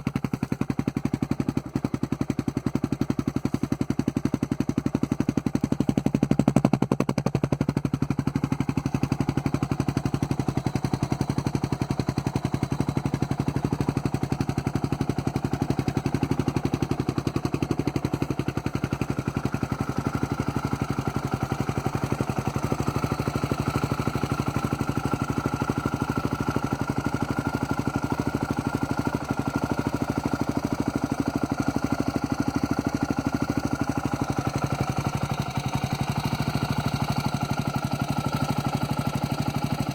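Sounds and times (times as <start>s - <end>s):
atv engine idling: 0.0s - 39.9s.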